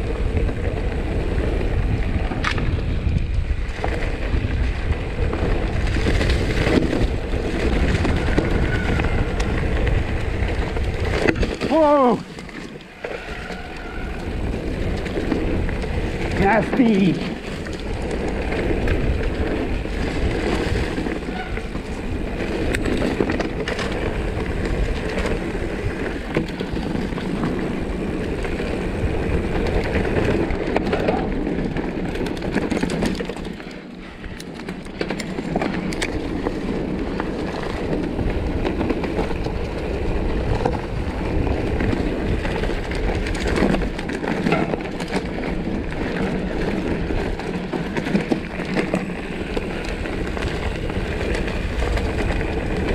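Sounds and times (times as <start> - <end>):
bike clattering over bumps: 0.0 - 52.9
bike tyres rumbling on dirt: 0.0 - 52.9.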